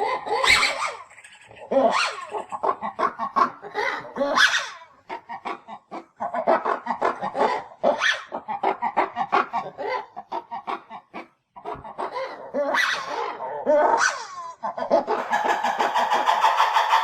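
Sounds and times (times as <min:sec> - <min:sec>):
animal chattering calls: 0:00.0 - 0:17.0.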